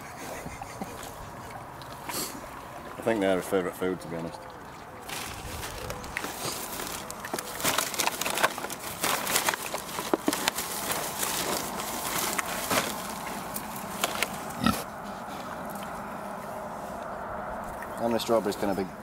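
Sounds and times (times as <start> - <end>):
pigs snorting: 0.0 - 16.4
pigs chewing and snuffling: 0.0 - 19.0.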